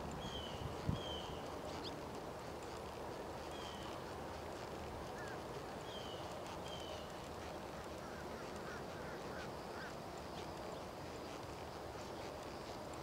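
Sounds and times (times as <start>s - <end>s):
muffled hoofbeats on sand: 0.0s - 13.0s.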